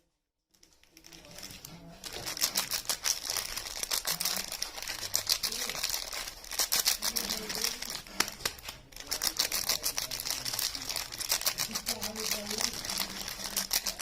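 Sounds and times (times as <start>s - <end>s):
wrappers crinkling: 0.5s - 14.0s.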